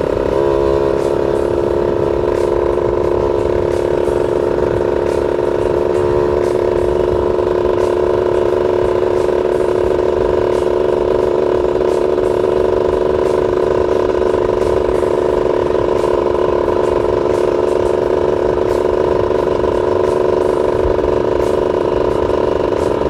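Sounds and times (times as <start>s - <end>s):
two-stroke engine running: 0.0s - 23.0s.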